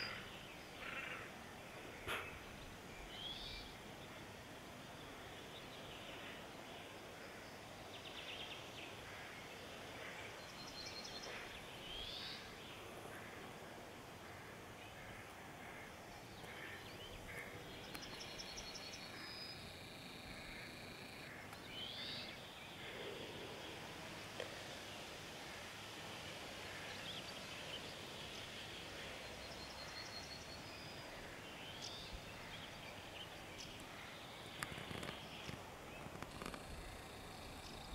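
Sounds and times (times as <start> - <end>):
birds chirping trills: 0.0 - 24.1, 26.7 - 37.9
outdoor hiss: 0.0 - 37.9.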